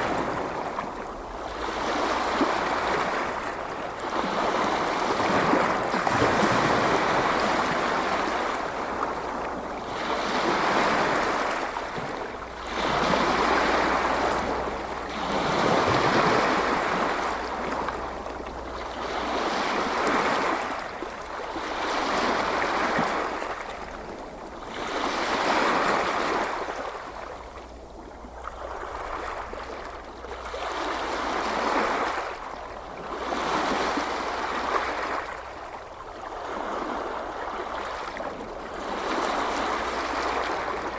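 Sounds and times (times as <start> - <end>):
ocean surf washing: 0.0 - 40.9.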